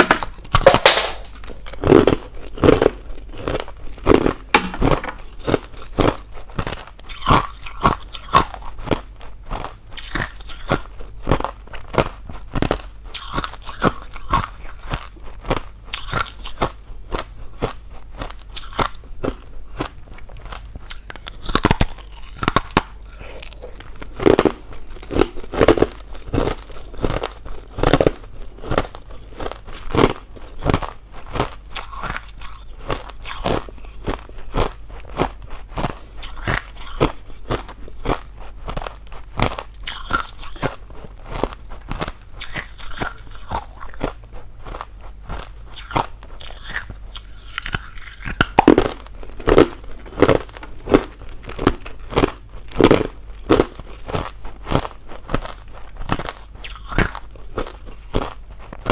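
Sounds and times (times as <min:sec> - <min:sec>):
ice crunching being chewed: 0:00.0 - 0:58.9.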